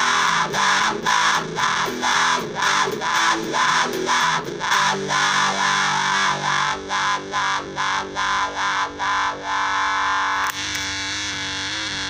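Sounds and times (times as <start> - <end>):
fuzz-distorted electric guitar chords: 0.0 - 12.0.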